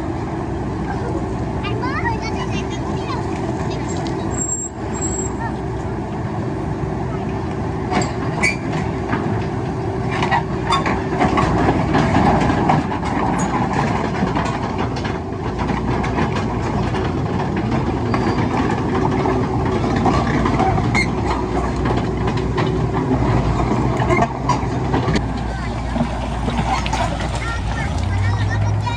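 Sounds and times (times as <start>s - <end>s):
diesel machinery running: 0.0s - 28.9s.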